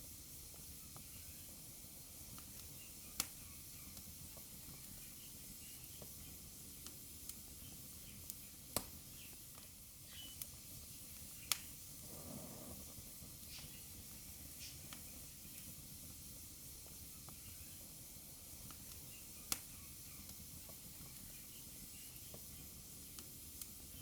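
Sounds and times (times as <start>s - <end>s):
fire hissing: 0.0s - 24.0s
fire crackling and popping: 0.2s - 24.0s.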